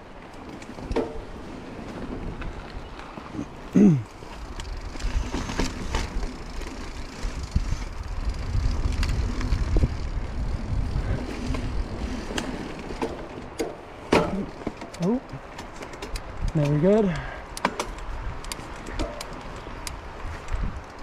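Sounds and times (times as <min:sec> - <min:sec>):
tyres rumbling over dirt: 0:00.0 - 0:17.2
bike rattling over bumps: 0:00.0 - 0:21.0.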